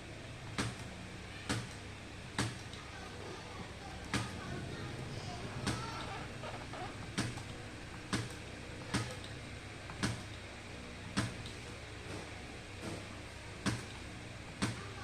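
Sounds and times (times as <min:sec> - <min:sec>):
low transformer hum: 0:00.0 - 0:15.0.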